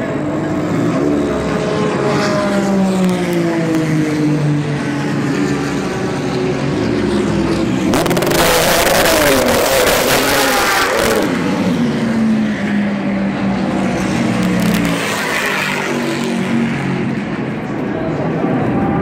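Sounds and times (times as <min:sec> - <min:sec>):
race car engines droning: 0:00.0 - 0:19.0
race car engine revving: 0:00.2 - 0:17.9.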